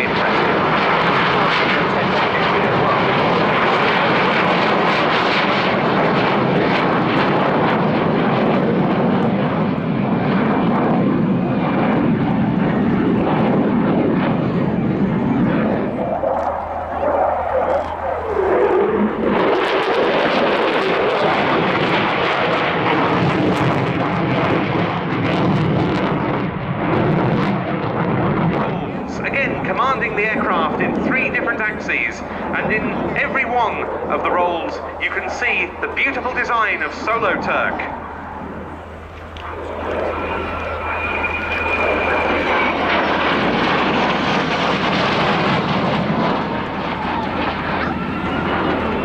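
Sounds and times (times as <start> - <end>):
fighter jet engine rumble: 0.0 - 49.0.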